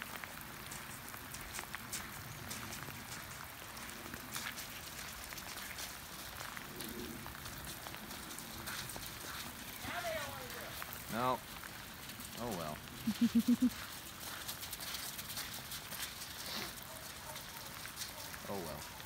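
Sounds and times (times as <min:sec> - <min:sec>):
light rain pattering: 0:00.0 - 0:19.0.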